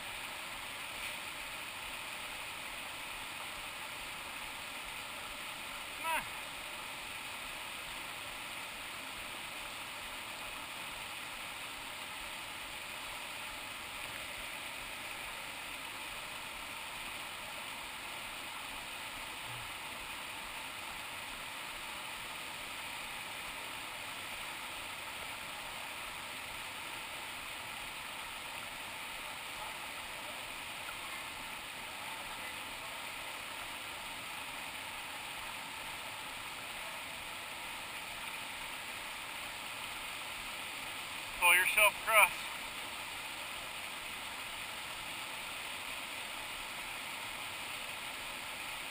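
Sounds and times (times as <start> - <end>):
whitewater rushing over rocks: 0.0 - 48.9.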